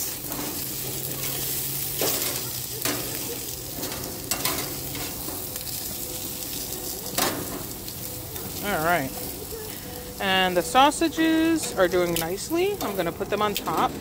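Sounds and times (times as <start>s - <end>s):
tongs scraping metal basket: 0.0s - 14.0s
vegetables sizzling on grill: 0.0s - 14.0s.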